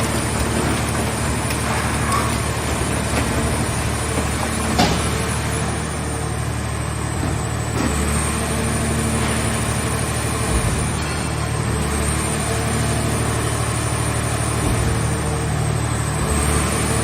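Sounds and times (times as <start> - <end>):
hydraulic baler droning: 0.0 - 17.0.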